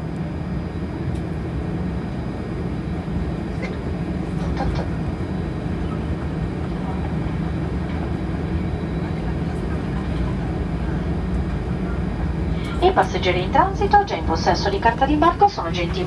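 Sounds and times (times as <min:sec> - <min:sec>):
jet engines idling: 0:00.0 - 0:16.0.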